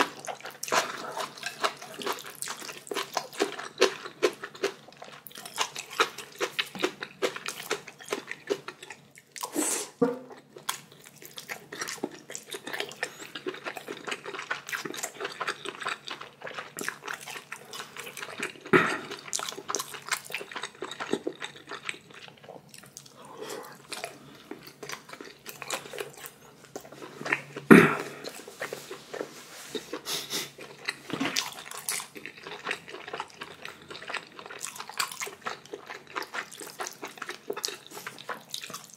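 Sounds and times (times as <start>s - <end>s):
wet chewing: 0.0s - 9.6s, 10.3s - 38.9s.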